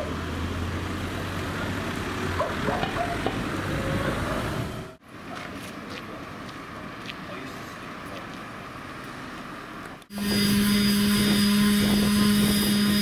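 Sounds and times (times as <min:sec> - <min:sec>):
street background: 0:00.0 - 0:13.0
vehicle engine humming: 0:00.0 - 0:13.0.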